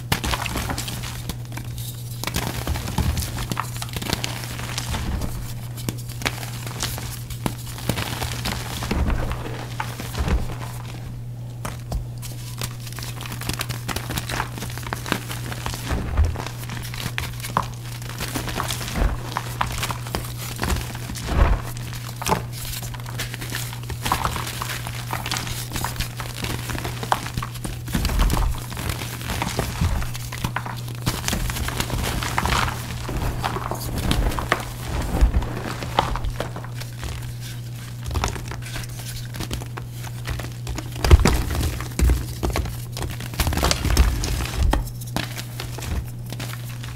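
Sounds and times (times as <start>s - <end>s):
chalk being crushed: 0.0s - 46.9s
steady low hum: 0.0s - 46.9s.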